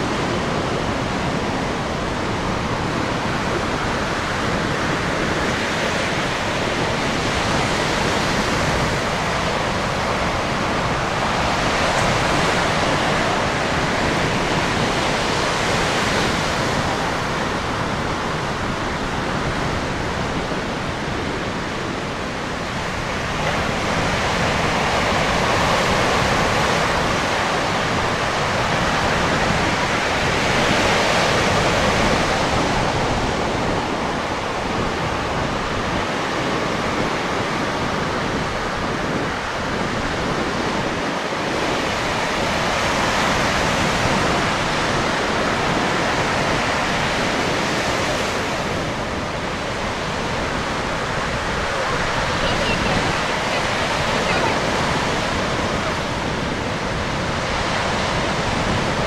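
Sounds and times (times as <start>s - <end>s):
ocean surf washing: 0.0s - 59.0s.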